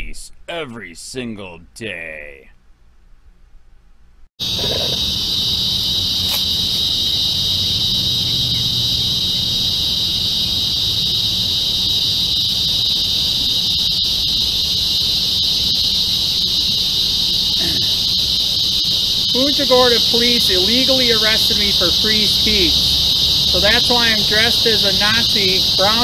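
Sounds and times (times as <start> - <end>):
high-pitched insect drone: 4.4 - 26.0.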